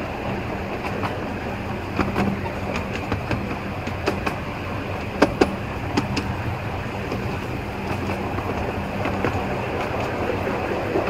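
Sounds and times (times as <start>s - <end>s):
train rumbling on track: 0.0s - 11.0s
wheels clicking over rail joints: 0.0s - 11.0s.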